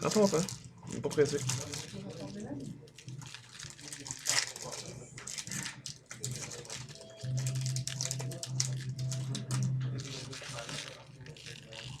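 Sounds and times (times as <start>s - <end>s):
foil wrappers crinkling: 0.0s - 12.0s.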